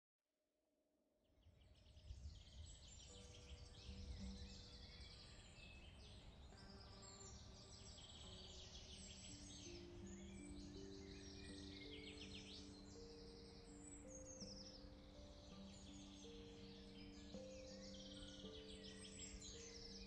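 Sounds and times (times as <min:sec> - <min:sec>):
songbirds chirping: 0:01.4 - 0:20.0.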